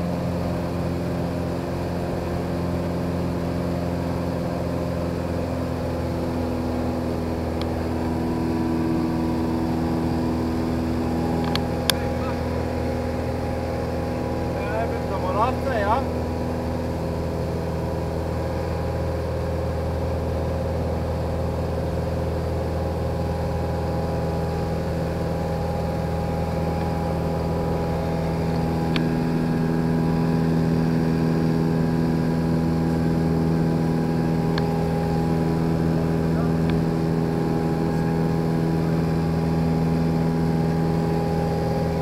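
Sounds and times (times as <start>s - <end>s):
aircraft engine drone: 0.0s - 42.0s.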